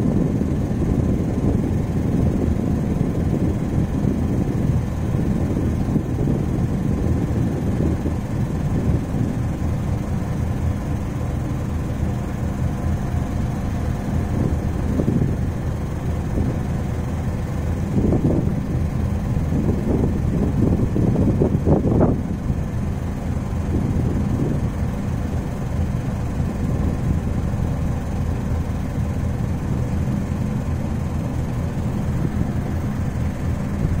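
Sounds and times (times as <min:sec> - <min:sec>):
marine engine drone: 0:00.0 - 0:34.0
wind: 0:00.0 - 0:34.0.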